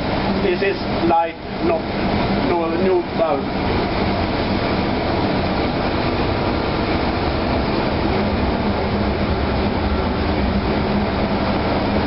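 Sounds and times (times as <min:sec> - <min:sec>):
engine-room machinery drone: 0:00.0 - 0:12.0.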